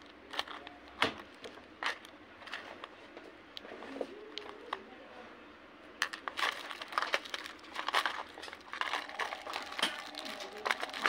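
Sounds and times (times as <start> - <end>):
plastic rustling and crinkling: 0.0 - 4.8, 6.0 - 11.0.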